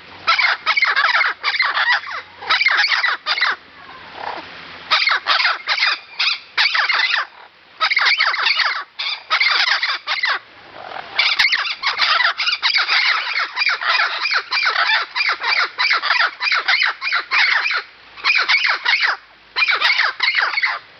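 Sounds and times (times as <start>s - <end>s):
parrots squawking: 0.2s - 20.8s.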